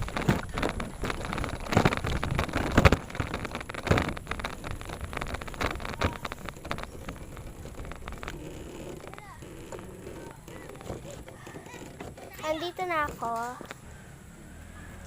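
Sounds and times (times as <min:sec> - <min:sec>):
wind on microphone: 0:00.0 - 0:12.3
bicycle rattling over rough ground: 0:00.0 - 0:15.0.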